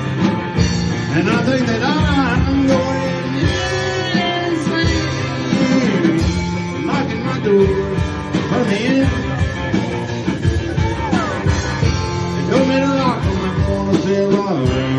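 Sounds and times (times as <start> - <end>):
live country-rock band: 0.0 - 14.9.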